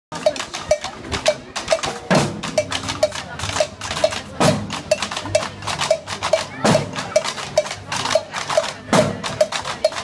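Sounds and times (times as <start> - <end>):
samba percussion group: 0.1 - 10.0.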